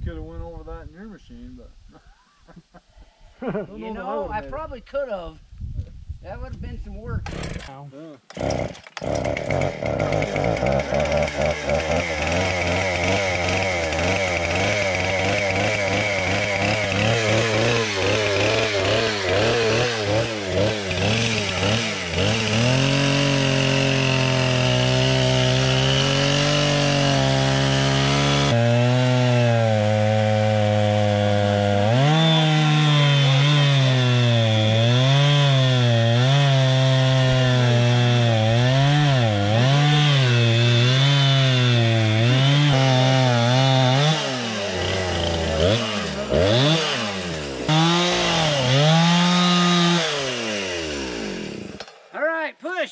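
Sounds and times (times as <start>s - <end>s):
chainsaw cutting wood: 7.2s - 52.1s.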